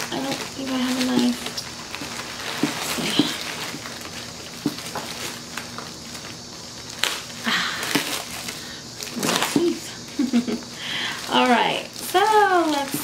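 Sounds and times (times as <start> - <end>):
plastic and paper crinkling: 0.0 - 13.0.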